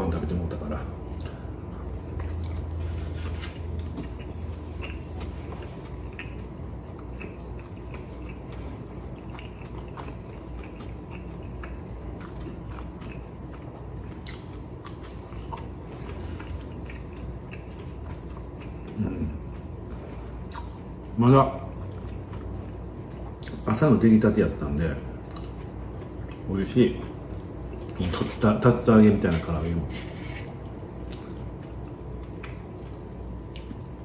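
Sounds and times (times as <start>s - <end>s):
low steady hum: 0.0s - 34.0s
man chewing: 1.1s - 23.7s, 25.2s - 28.4s, 29.3s - 34.0s.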